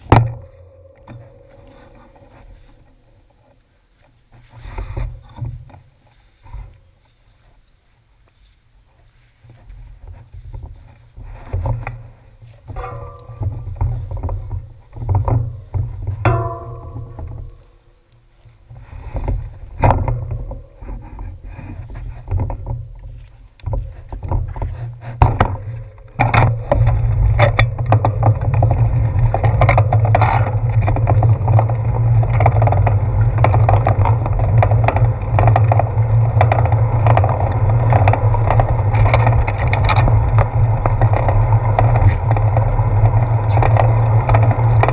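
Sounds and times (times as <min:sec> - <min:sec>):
bicycle road rumble: 0:00.0 - 0:44.9.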